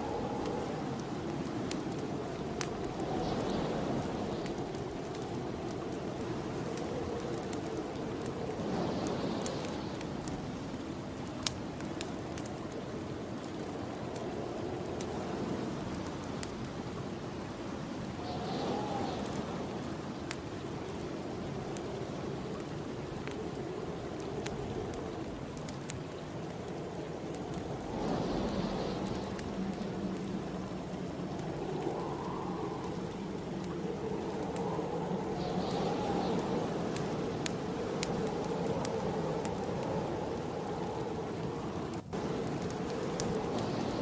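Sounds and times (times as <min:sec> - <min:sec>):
snowstorm wind blowing: 0:00.0 - 0:44.0
wood fire crackling and popping: 0:00.0 - 0:44.0.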